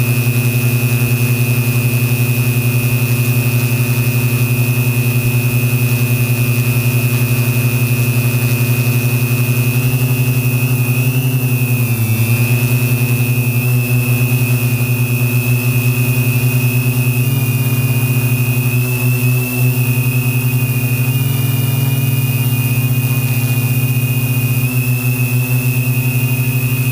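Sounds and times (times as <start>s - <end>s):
drone buzzing hum: 0.0s - 26.9s.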